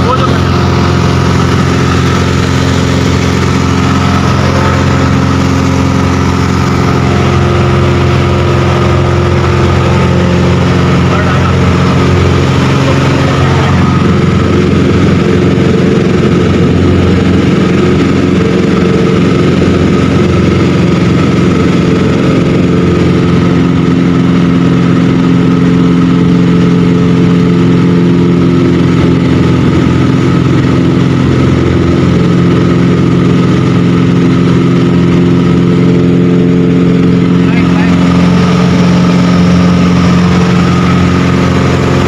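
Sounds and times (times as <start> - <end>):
aircraft engine droning: 0.0 - 42.0.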